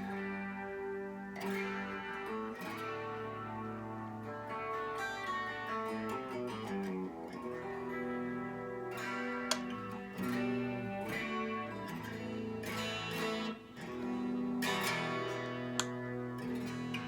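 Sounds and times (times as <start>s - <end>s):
electric guitar strummed chords: 0.0s - 17.0s.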